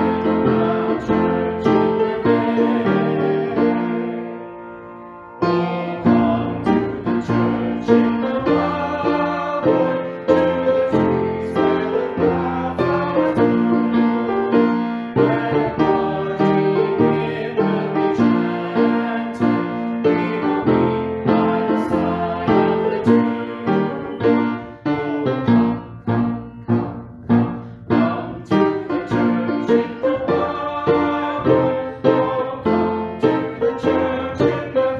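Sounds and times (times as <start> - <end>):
solo piano piece: 0.0 - 34.9.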